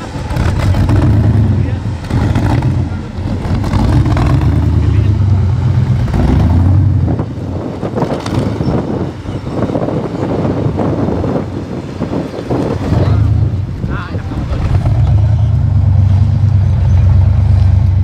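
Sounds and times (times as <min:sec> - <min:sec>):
buggy engine under load: 0:00.0 - 0:18.0.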